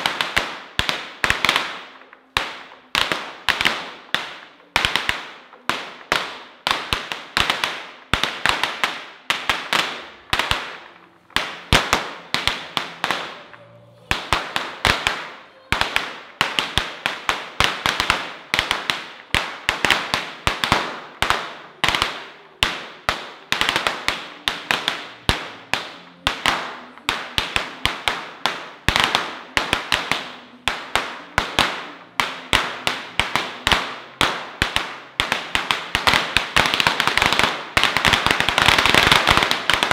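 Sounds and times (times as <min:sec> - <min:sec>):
firecrackers banging: 0:00.0 - 0:39.9.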